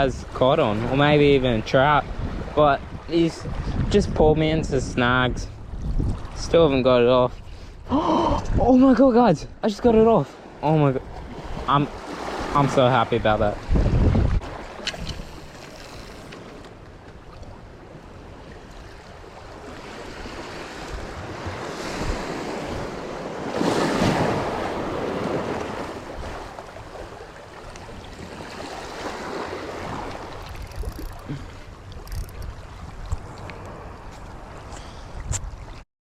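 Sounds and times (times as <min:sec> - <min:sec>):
strong wind: 0:00.0 - 0:35.8.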